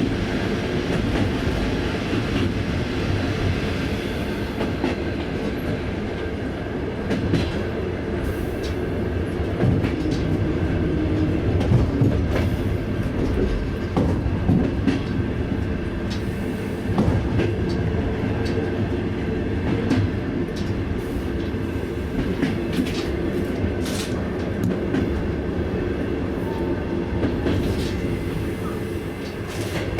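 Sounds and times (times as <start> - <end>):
train rumbling on rails: 0.0 - 29.9.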